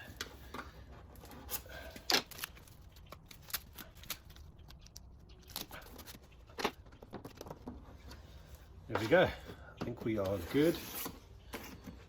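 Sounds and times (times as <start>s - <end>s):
tape crackling and rustling: 0.0s - 12.0s.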